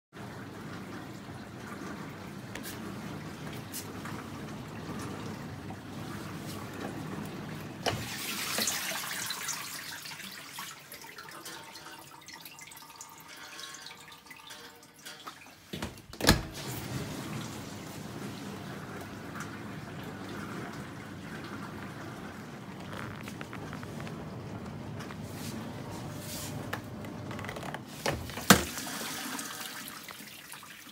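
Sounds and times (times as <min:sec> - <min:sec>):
dishwasher pump humming: 0:00.2 - 0:30.2
water spraying inside dishwasher: 0:00.2 - 0:30.9.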